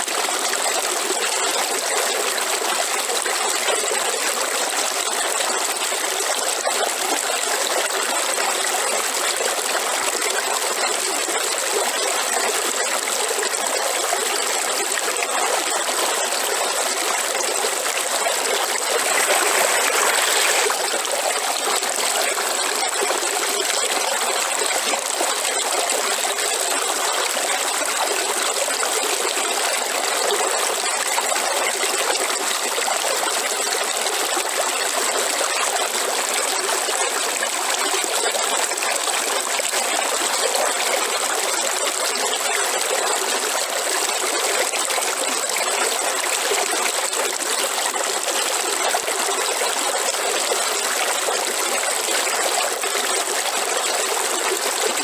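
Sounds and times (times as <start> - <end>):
river water flowing: 9.8 - 55.0.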